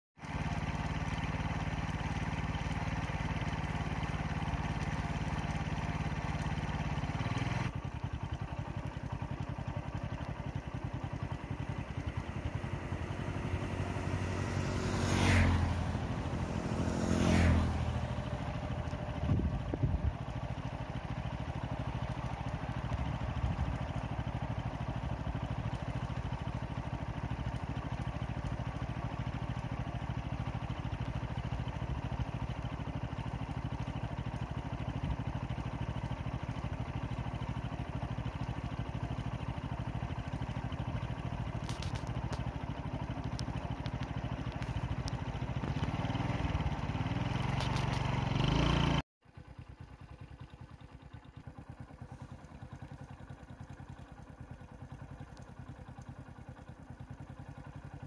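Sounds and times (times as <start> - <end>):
motorcycles passing on wet road: 0.2 - 49.0
engine idling: 0.2 - 58.0.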